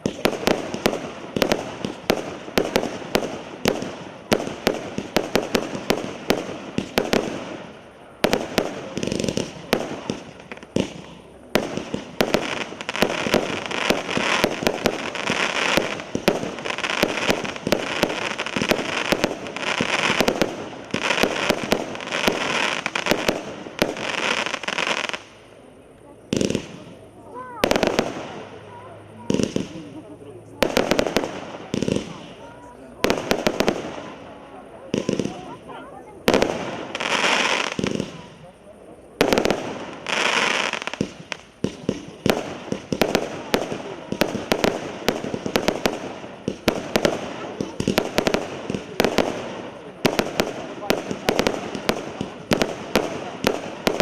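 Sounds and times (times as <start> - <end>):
firework cake firing sharp shots: 0.0 - 25.4, 26.3 - 30.0, 30.6 - 38.5, 39.2 - 54.0.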